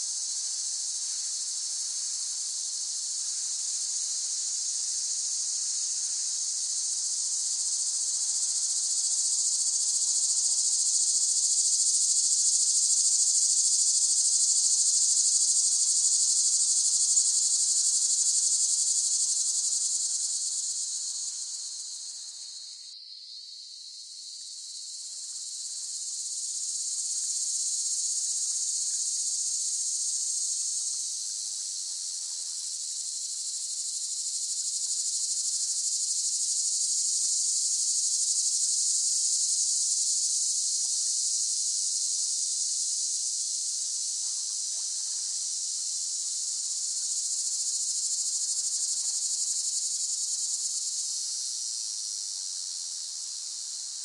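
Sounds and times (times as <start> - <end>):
cicadas buzzing: 0.0 - 43.2, 44.0 - 54.0.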